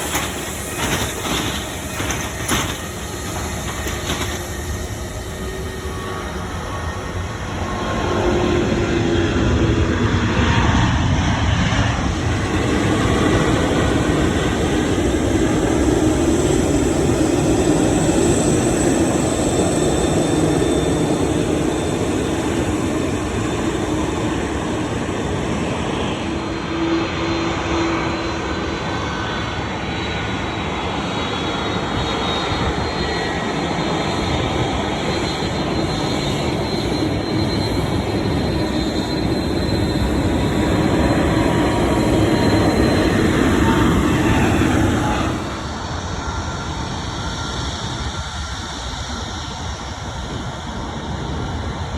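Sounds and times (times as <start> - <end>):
faint jet whine: 0.0 - 51.9
jet engines rushing: 0.0 - 51.9.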